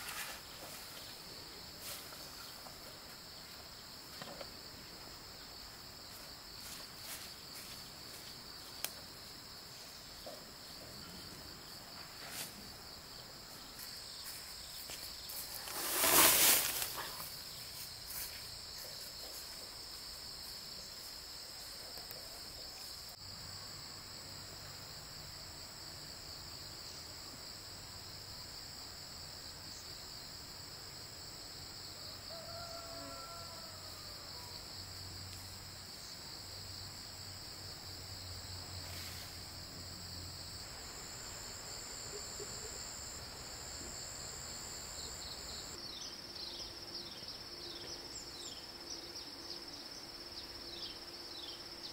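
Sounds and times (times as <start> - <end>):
insects chirring: 0.0 - 51.9.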